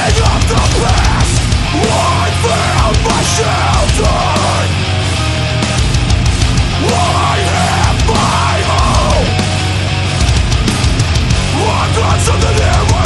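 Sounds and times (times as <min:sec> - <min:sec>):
heavy metal music: 0:00.0 - 0:13.0.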